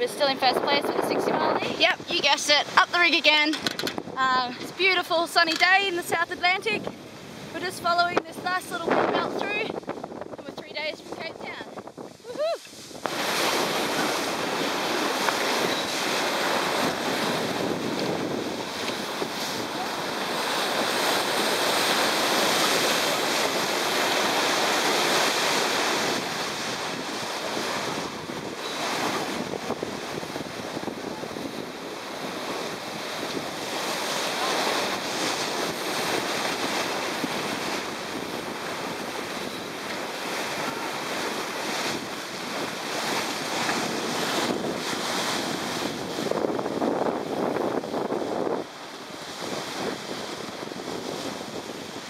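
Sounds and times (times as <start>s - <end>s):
water rushing past hull: 0.0s - 52.0s
wind buffeting microphone: 0.0s - 52.0s.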